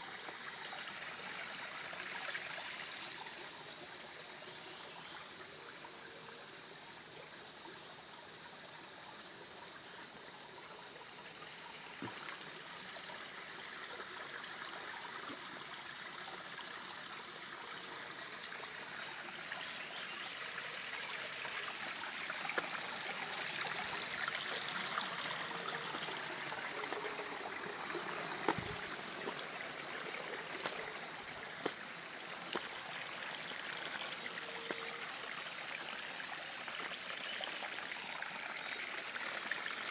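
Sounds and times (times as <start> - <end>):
creek water rushing and trickling: 0.0 - 39.9.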